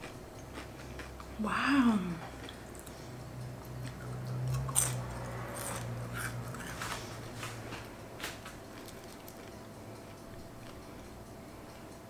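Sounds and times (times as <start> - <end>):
chewing crispy pastry: 0.0 - 1.4, 2.2 - 12.0
low steady hum: 0.0 - 12.0.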